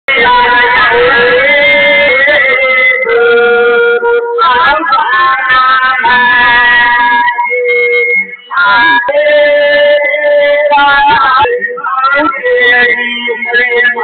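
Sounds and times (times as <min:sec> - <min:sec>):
instrumental backing: 0:00.1 - 0:14.0
person singing long notes: 0:00.1 - 0:14.0.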